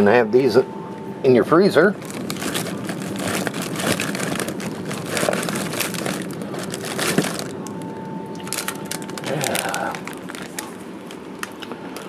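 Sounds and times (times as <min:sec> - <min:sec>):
plastic wrapper crinkling: 0:02.0 - 0:12.0.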